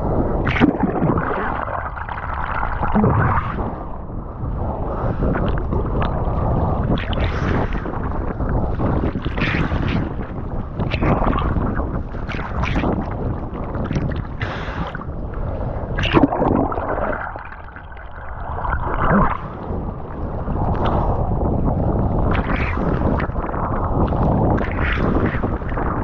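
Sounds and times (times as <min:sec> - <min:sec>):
ocean water splashing: 0:00.0 - 0:26.0
wind buffeting microphone: 0:00.0 - 0:26.0.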